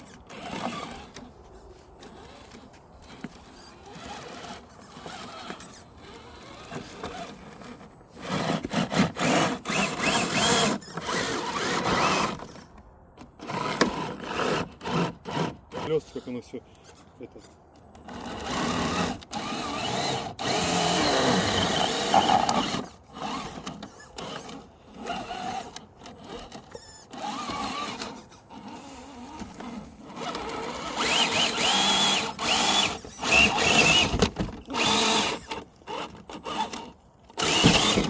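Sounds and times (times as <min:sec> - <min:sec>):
toy car electric motor whining: 0:00.0 - 0:17.1, 0:17.9 - 0:38.0.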